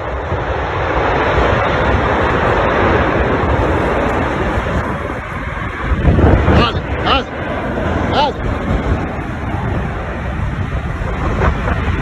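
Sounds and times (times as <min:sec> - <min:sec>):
strong wind on microphone: 0:00.0 - 0:12.0.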